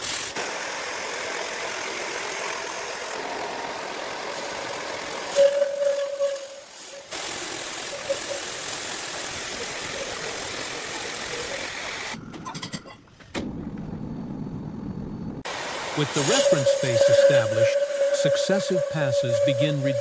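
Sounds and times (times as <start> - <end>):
bandsaw mill cutting wood: 0.0 - 12.2, 16.0 - 20.0.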